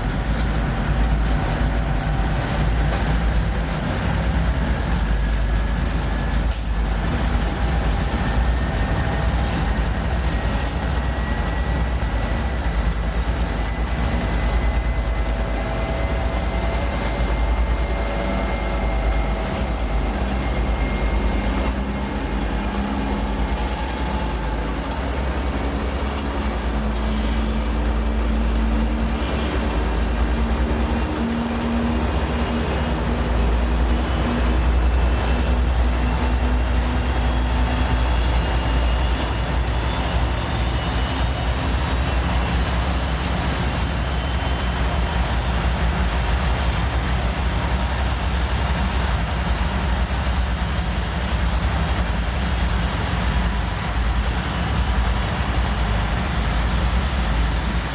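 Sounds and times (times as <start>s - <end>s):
train rumble: 0.0s - 57.9s.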